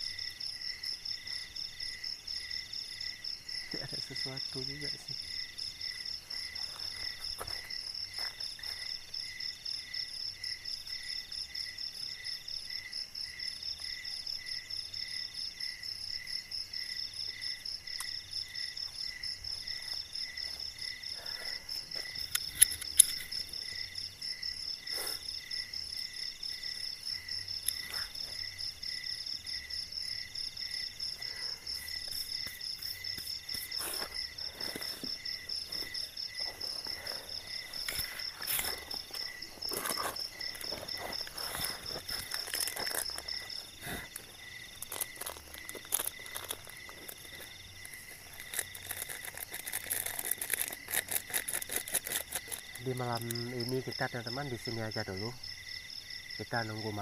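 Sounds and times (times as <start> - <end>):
crickets trilling: 0.0 - 57.0
insects chirping: 0.0 - 57.0.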